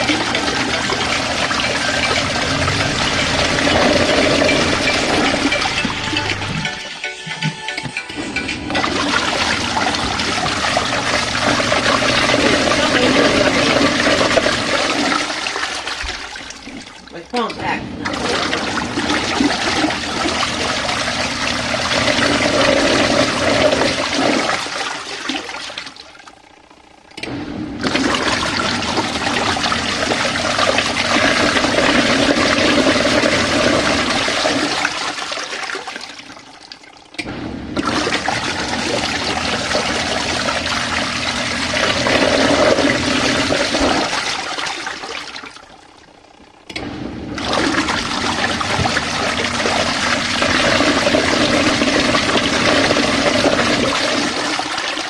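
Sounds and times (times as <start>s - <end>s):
washing machine agitating: 0.0s - 55.0s.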